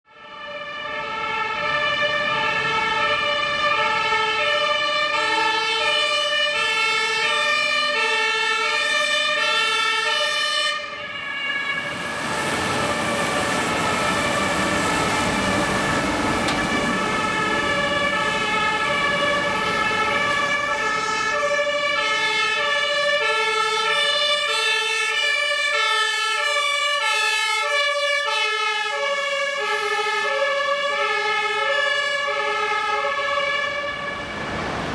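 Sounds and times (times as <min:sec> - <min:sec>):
fire engine driving past: 0:00.1 - 0:34.9
two-tone emergency sirens: 0:00.1 - 0:34.9.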